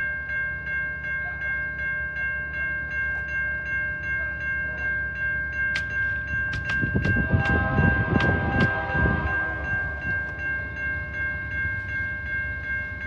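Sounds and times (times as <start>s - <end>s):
crossing warning bell ringing: 0.0s - 13.0s
train rumble: 0.0s - 13.0s.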